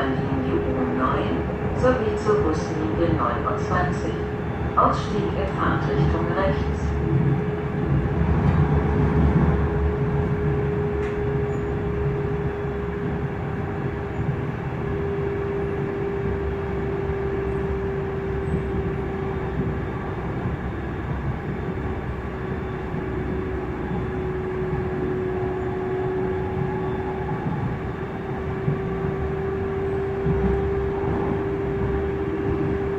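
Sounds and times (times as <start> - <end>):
steady train whine: 0.0 - 32.9
train running noise: 0.0 - 32.9.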